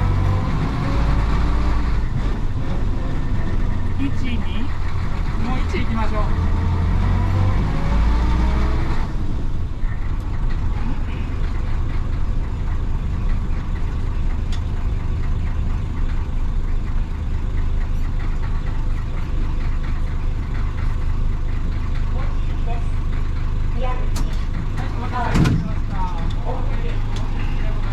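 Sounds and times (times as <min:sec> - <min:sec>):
bus diesel engine revving: 0:00.0 - 0:27.9.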